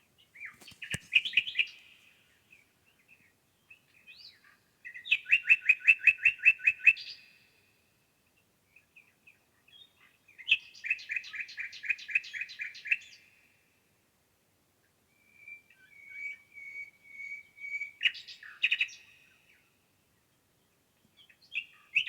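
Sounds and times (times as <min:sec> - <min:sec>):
songbird singing: 0:00.0 - 0:13.6, 0:15.1 - 0:22.0.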